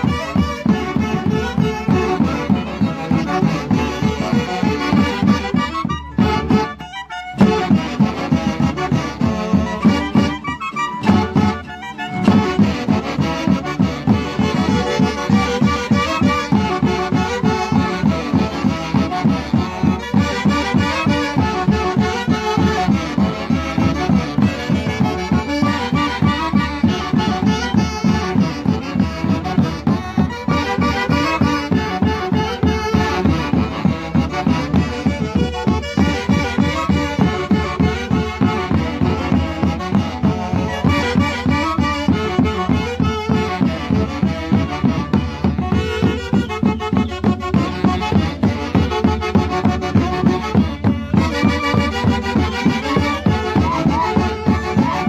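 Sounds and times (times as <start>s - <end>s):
folk band with saxophones and harp: 0.0s - 55.0s.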